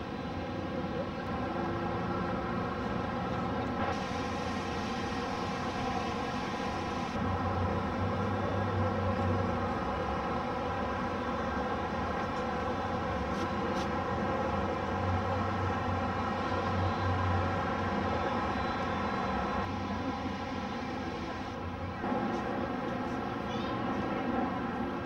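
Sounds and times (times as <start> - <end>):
aircraft engine droning: 0.0 - 25.0.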